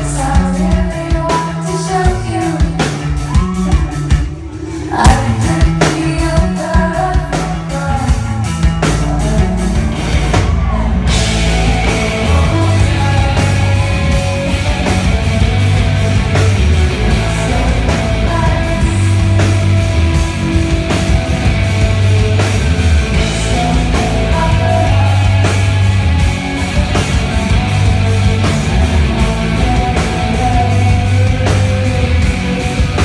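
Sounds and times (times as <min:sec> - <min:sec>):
bass guitar: 0:00.0 - 0:33.0
distorted electric guitars: 0:00.0 - 0:33.0
drums: 0:00.0 - 0:33.0.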